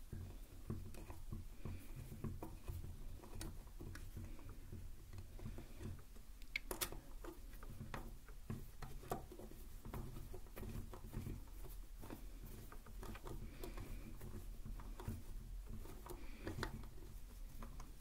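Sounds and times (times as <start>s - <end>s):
scratching: 0.0s - 18.0s.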